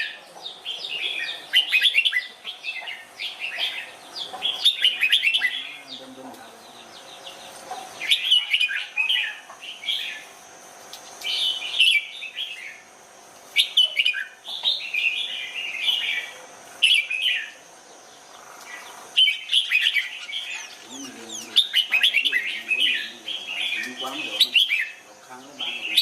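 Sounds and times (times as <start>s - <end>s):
bulbul singing warbled phrases: 0.0s - 10.4s, 11.2s - 12.9s, 13.5s - 26.0s.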